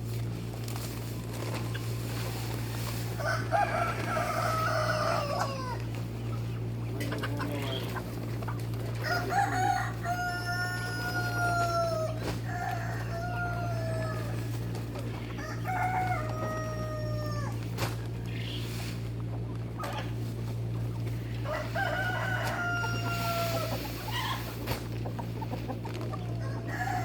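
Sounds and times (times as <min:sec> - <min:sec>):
roosters crowing: 0:00.0 - 0:27.0
steady low hum: 0:00.0 - 0:27.0.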